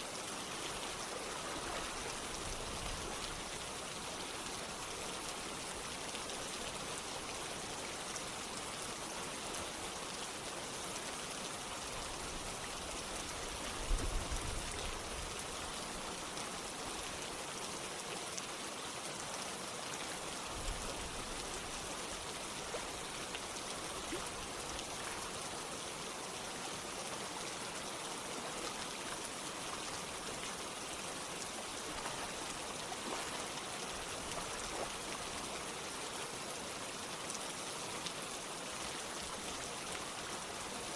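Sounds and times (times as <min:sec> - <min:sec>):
running water: 0:00.0 - 0:40.9
steady rain falling: 0:00.0 - 0:40.9.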